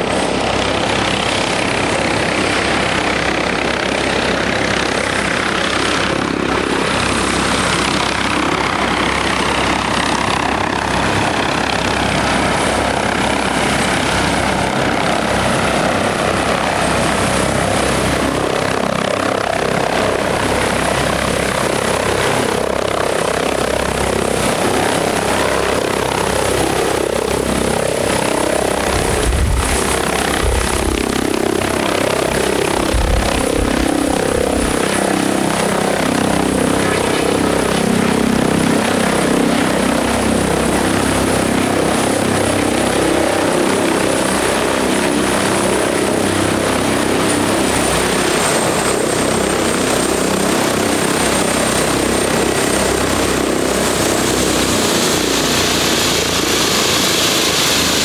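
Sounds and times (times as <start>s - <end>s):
helicopter flying past: 0.0s - 58.0s.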